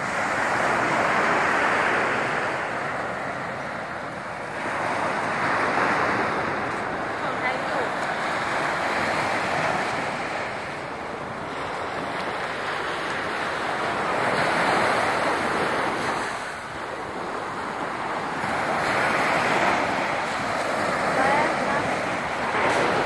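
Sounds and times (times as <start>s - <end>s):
waves breaking on beach: 0.0s - 23.0s.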